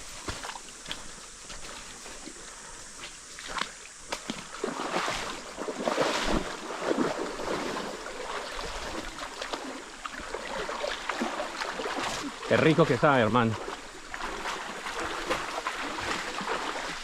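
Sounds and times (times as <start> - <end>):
stream water running: 0.0 - 17.0
water splashing and sloshing: 0.0 - 17.0.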